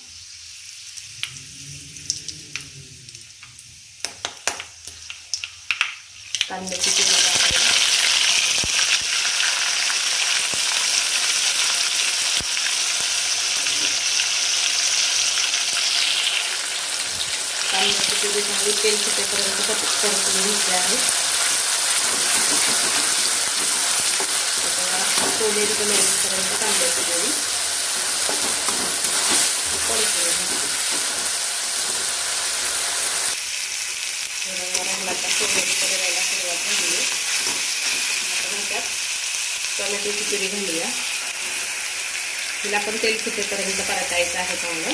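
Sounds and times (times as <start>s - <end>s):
onion frying in hot oil: 0.0s - 44.9s.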